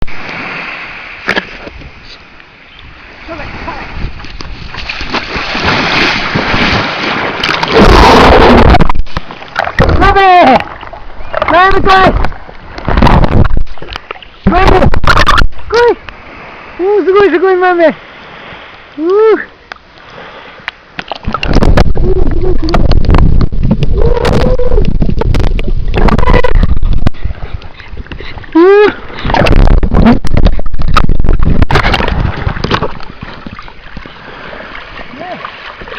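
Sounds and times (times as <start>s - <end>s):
wind noise on microphone: 0.0s - 16.8s, 20.2s - 35.0s
sea water: 0.0s - 35.9s.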